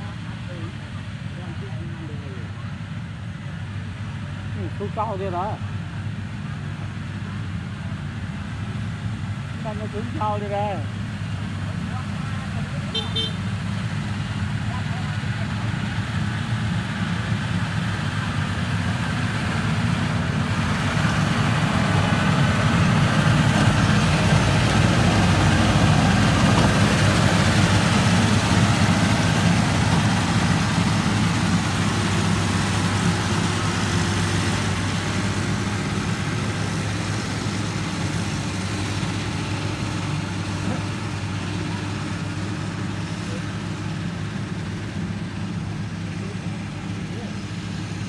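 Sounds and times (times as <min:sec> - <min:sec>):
heavy machinery engine humming: 0:00.0 - 0:48.0.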